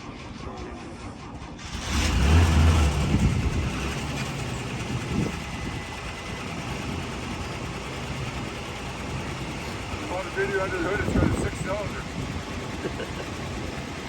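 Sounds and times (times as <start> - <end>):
pickup truck engine revving and idling: 1.6 - 14.0.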